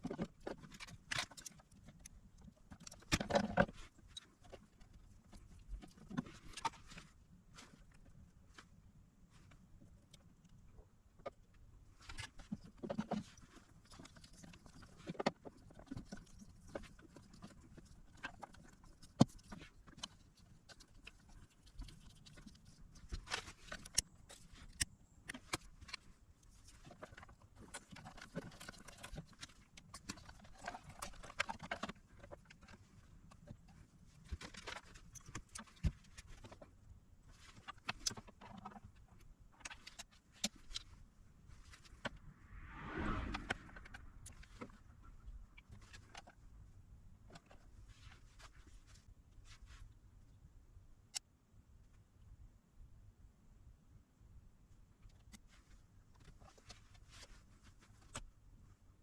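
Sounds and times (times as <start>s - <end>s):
soft rustling: 0.0s - 10.7s, 11.6s - 50.4s, 55.1s - 59.0s.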